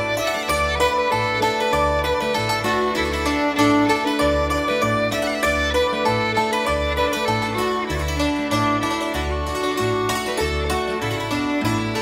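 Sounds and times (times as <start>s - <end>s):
fiddle playing a tune: 0.0s - 12.0s
plucked strings: 0.0s - 12.0s.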